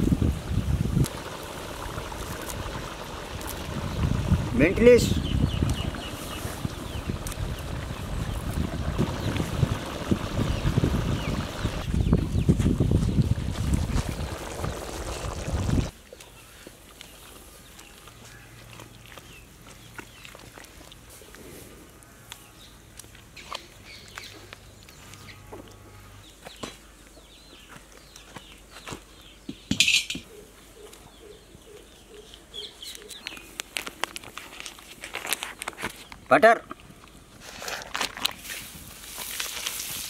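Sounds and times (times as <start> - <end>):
birds chirping: 1.2 - 33.8.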